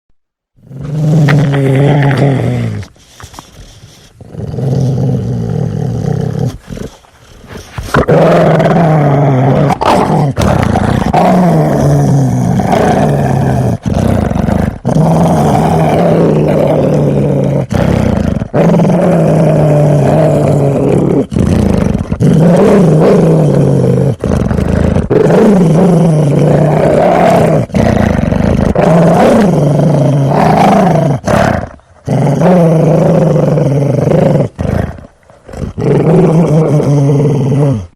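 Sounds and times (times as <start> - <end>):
dog growling: 0.6 - 37.9.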